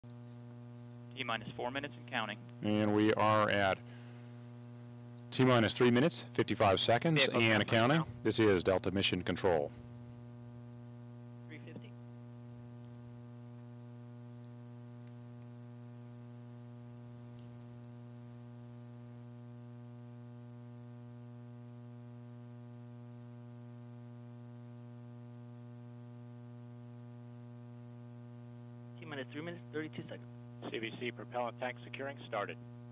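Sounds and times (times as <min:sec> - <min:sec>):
electrical mains hum: 0:00.1 - 0:32.9.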